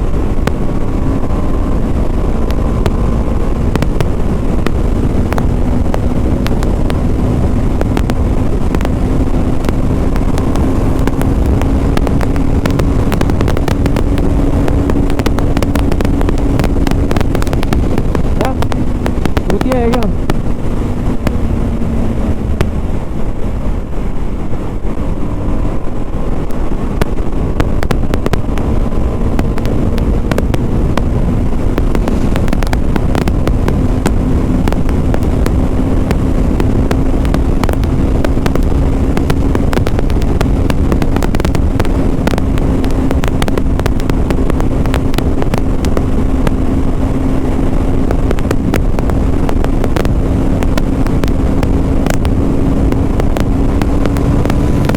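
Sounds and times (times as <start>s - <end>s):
motorcycle engine cruising: 0.0s - 54.9s
wind buffeting microphone: 0.0s - 54.9s.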